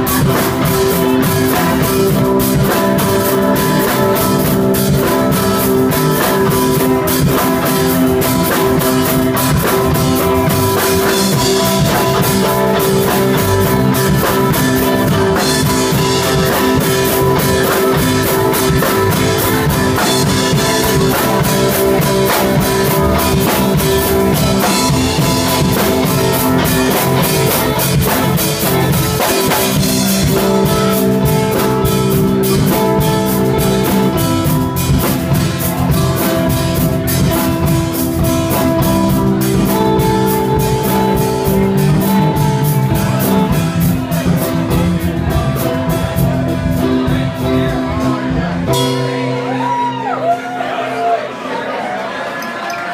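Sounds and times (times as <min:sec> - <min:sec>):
drum kit: 0:00.0 - 0:50.9
electric guitar: 0:00.0 - 0:51.1.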